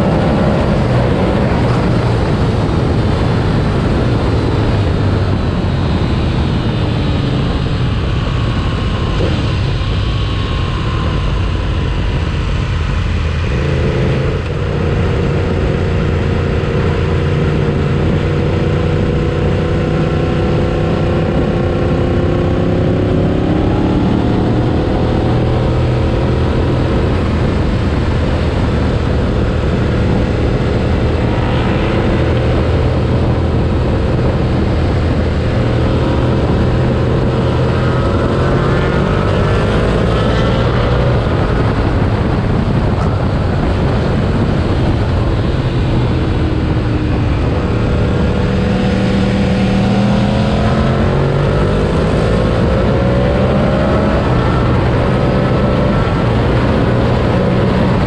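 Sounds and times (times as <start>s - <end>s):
motorcycle engine: 0.0s - 58.0s
wind rush: 0.0s - 58.0s.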